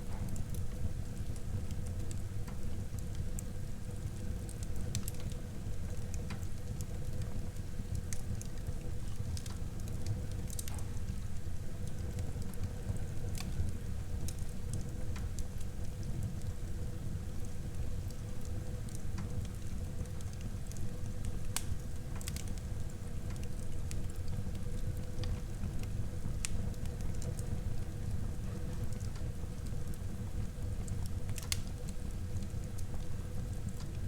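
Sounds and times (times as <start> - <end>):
wood crackling and popping: 0.1 - 34.0
fire flames rumbling: 0.2 - 34.0.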